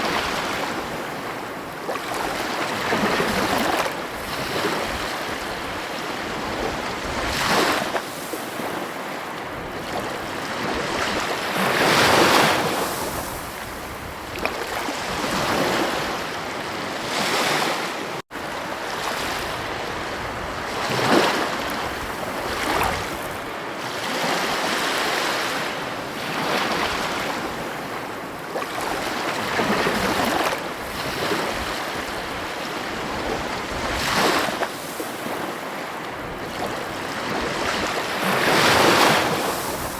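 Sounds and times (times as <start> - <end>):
ocean waves breaking ashore: 0.0 - 39.9.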